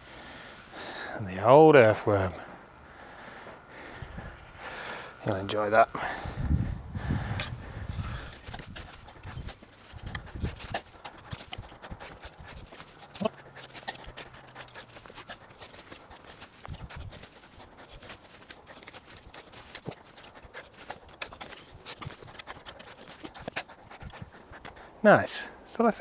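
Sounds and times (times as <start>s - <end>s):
digging in loose soil: 0.0s - 26.0s.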